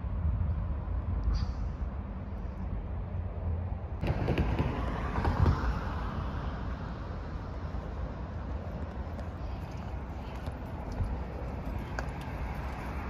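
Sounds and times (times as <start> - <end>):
road vehicle passing: 0.0 - 13.0
wind rumble on microphone: 0.0 - 13.0.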